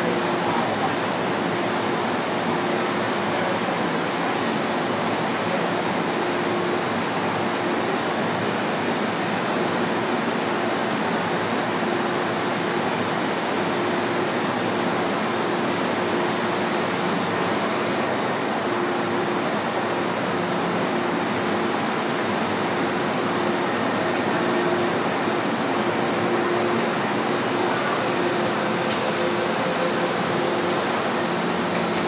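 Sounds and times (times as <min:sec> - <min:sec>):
train whirring hum: 0:00.0 - 0:32.0.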